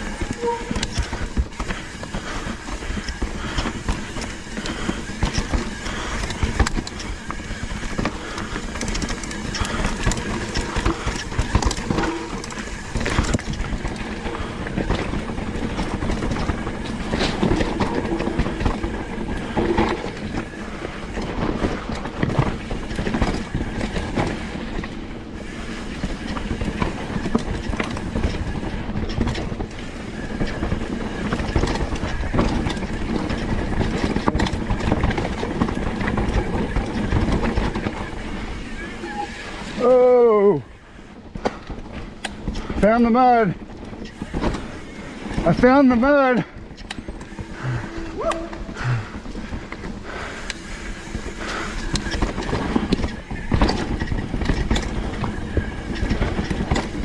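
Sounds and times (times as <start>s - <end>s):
bike frame and chain rattling: 0.0s - 57.0s.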